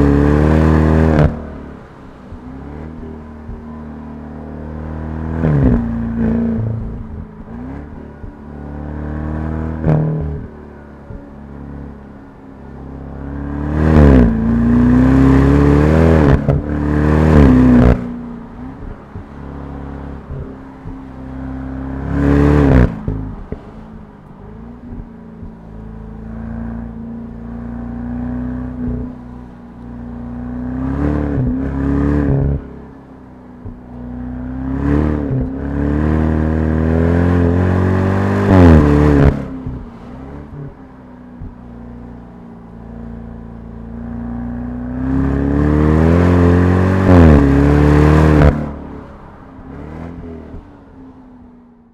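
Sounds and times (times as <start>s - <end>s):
car engine accelerating: 0.0s - 51.9s.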